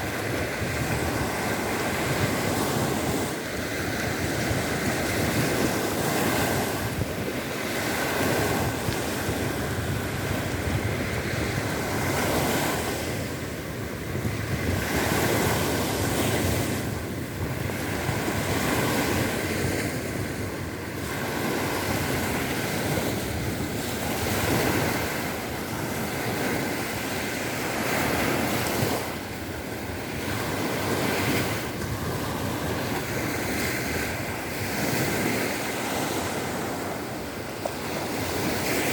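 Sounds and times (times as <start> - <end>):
waves washing onto shore: 0.0 - 38.9
wind on microphone: 0.0 - 38.9.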